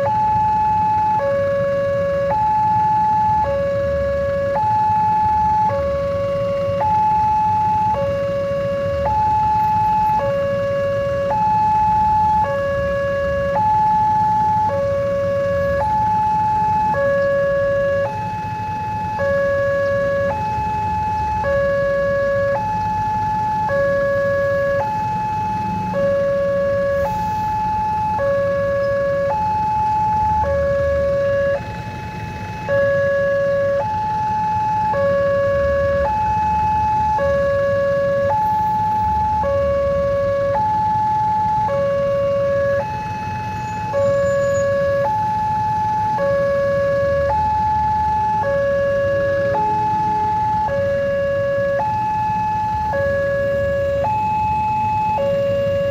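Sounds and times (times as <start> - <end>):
level crossing alarm two-tone signal: 0.0 - 55.9
low rumble of road traffic: 0.0 - 55.9.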